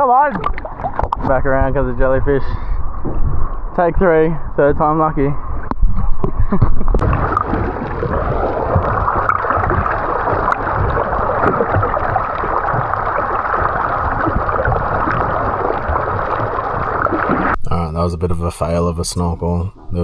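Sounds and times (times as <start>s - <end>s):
sea water gurgling and sloshing: 0.0s - 3.8s, 5.4s - 18.8s.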